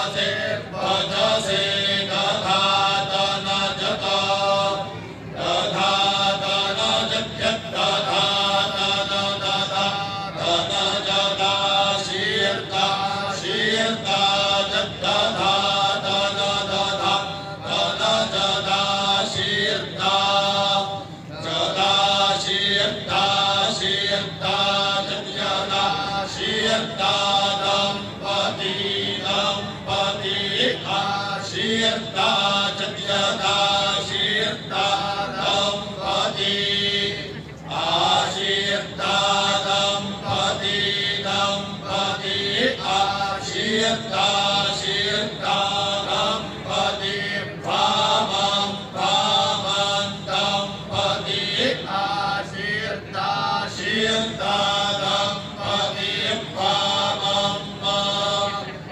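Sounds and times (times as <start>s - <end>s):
men chanting in unison: 0.0s - 58.9s.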